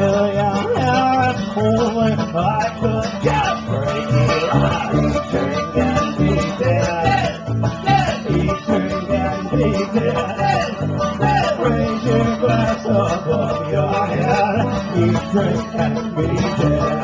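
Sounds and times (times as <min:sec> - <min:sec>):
banjo: 0:00.0 - 0:17.0
electric bass line: 0:00.0 - 0:17.0
strummed acoustic guitar: 0:00.0 - 0:17.0.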